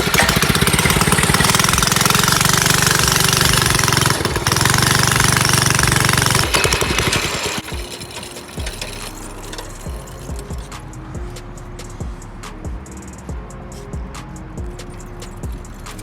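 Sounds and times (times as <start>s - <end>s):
small engine running: 0.0s - 13.4s, 14.6s - 16.0s.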